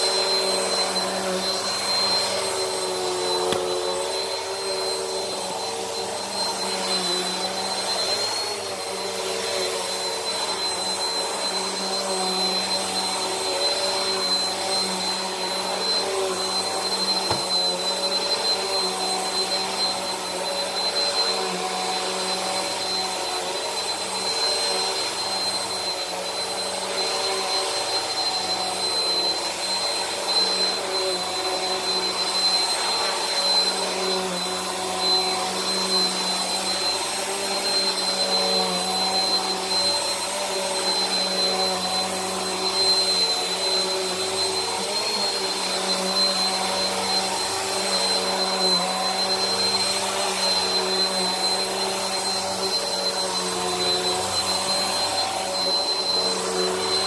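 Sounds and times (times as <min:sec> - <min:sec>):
vacuum cleaner running on carpet: 0:00.0 - 0:57.0.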